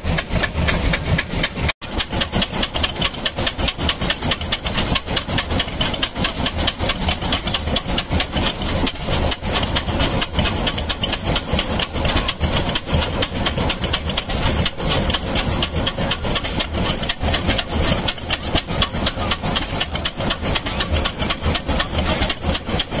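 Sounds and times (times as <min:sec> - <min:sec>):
stationary petrol engine running: 0:00.0 - 0:23.0.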